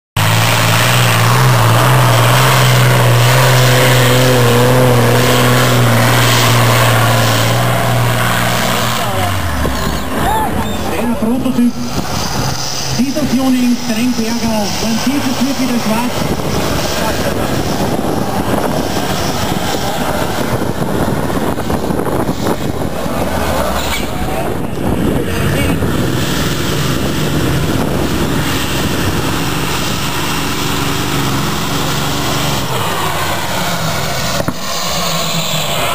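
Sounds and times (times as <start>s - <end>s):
tractor engine at high revs: 0.2s - 35.9s.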